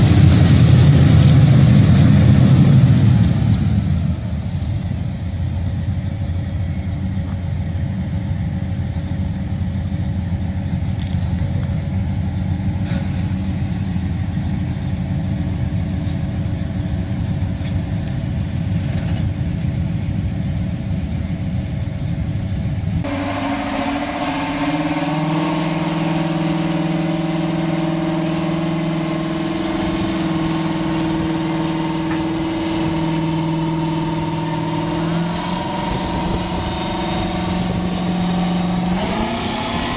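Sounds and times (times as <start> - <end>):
deep tractor engine drone: 0.0 - 39.9
higher-pitched engine running: 0.0 - 39.9.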